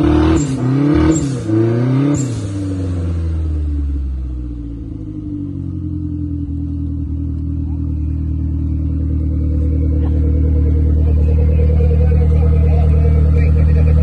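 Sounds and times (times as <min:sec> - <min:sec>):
car engine running at low revs: 0:00.0 - 0:14.0.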